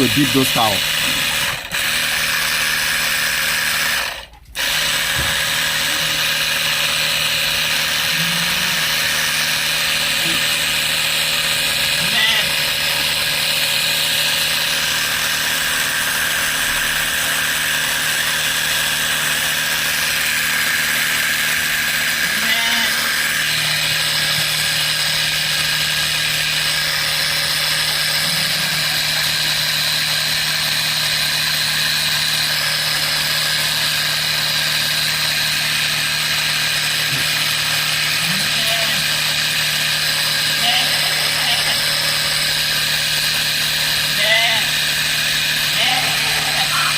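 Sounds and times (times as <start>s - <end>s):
sprayer pump motor running: 0.0s - 46.9s.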